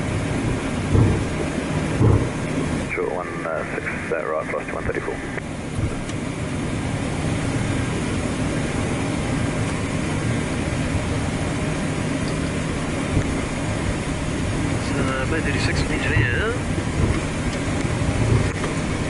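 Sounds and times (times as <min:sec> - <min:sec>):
jet engines idling in cockpit: 0:00.0 - 0:19.0.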